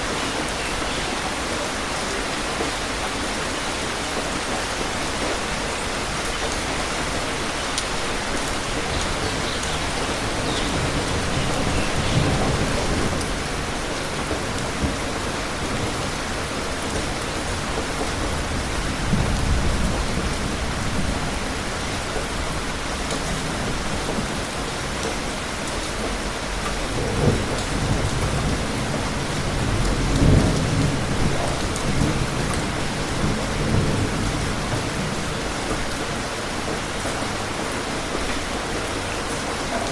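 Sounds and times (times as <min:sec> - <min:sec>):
steady rain falling: 0:00.0 - 0:39.9
thunder rumbling: 0:03.9 - 0:39.9.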